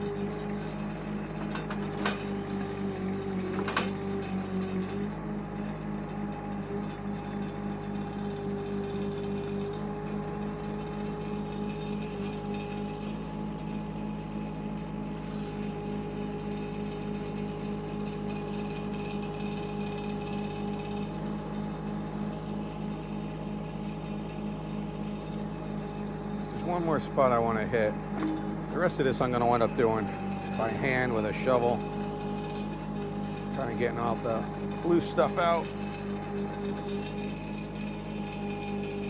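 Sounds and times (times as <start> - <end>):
hydraulic whine: 0.0 - 14.2, 14.8 - 22.6, 25.1 - 39.0
excavator engine pulse: 0.0 - 39.0.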